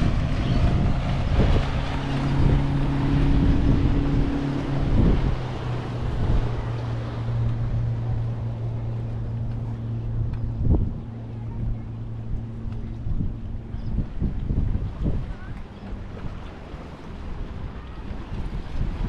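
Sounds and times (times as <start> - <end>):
motorboat engine humming: 0.0 - 19.0
wind buffeting microphone: 0.0 - 19.0.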